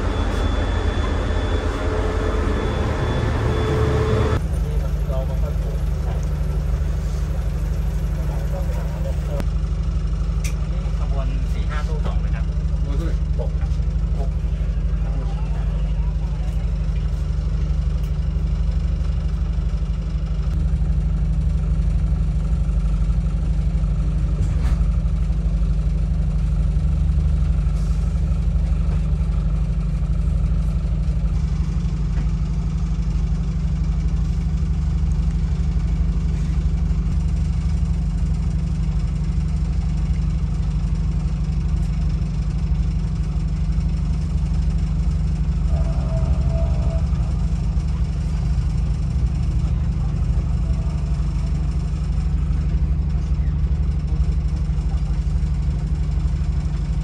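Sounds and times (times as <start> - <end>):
diesel train engine running: 0.0 - 57.0.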